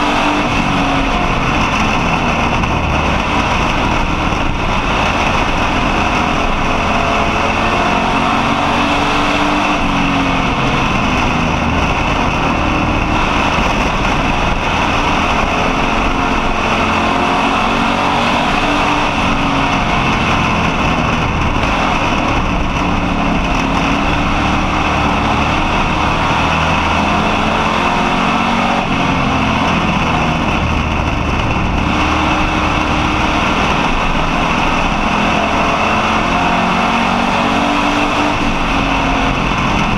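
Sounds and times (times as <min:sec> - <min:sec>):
race car engine revving: 0:00.0 - 0:39.9
wind and tyre noise: 0:00.0 - 0:39.9.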